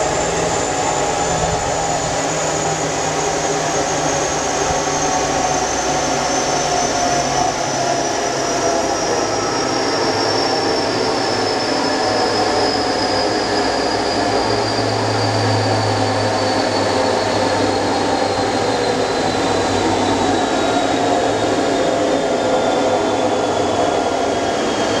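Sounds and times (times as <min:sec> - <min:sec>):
high turbo whine: 0:00.0 - 0:25.0.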